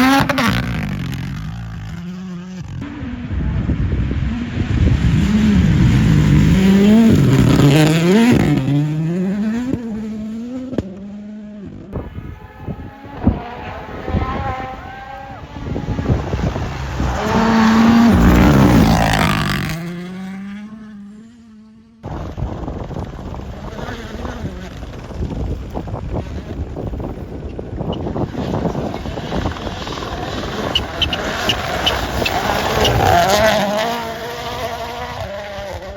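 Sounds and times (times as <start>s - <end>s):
rally car engine at full throttle: 0.0s - 35.9s.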